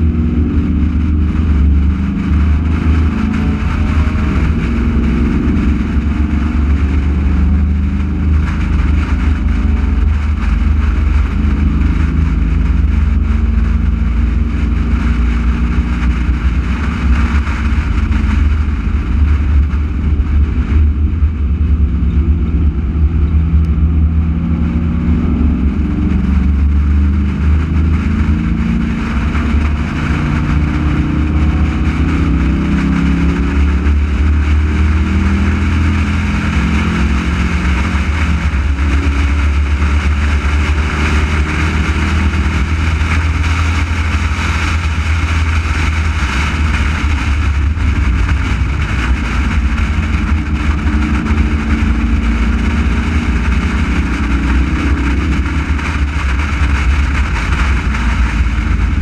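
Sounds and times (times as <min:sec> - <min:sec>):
race car engine: 0:00.0 - 0:59.0
wind and road noise: 0:00.0 - 0:59.0.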